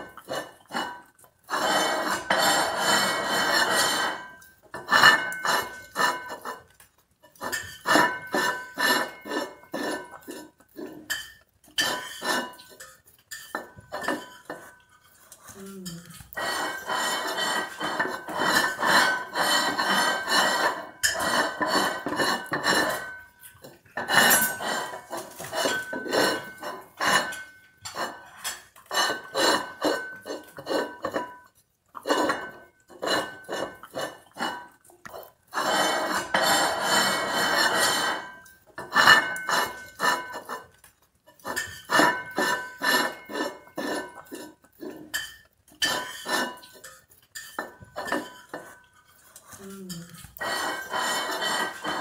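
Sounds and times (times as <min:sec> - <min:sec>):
plate scraping on tiles: 0:00.0 - 0:52.0.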